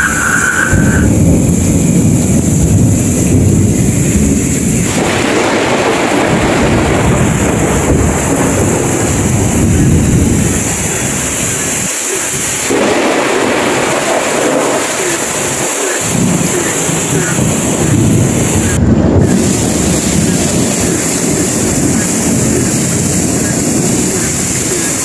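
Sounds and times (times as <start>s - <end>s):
heavy rain pouring: 0.0s - 25.0s
low thunder rumble: 0.0s - 25.0s.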